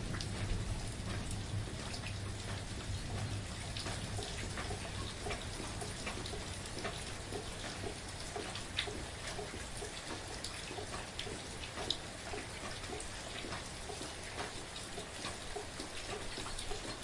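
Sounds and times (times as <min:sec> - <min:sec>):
raindrops ticking: 0:00.0 - 0:17.0
soft steady rain: 0:00.0 - 0:17.0.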